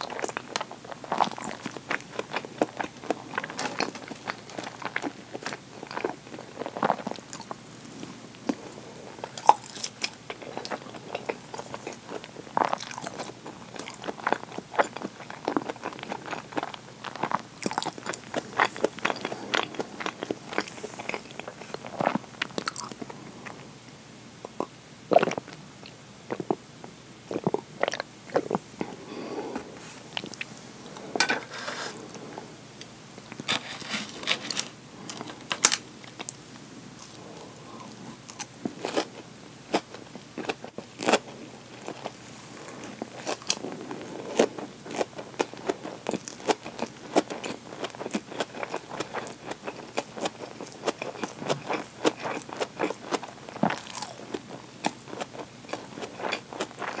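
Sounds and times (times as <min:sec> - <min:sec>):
chewing crispy fried chicken: 0:00.0 - 0:23.7, 0:34.2 - 0:57.0.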